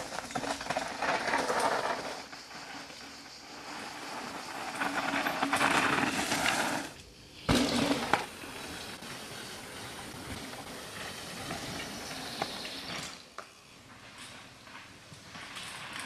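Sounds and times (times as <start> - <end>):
bike tyres rolling over dirt: 0.0 - 16.0.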